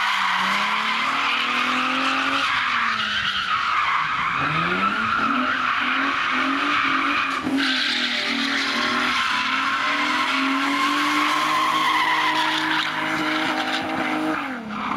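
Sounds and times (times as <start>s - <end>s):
car engine at high revs: 0.0s - 14.9s.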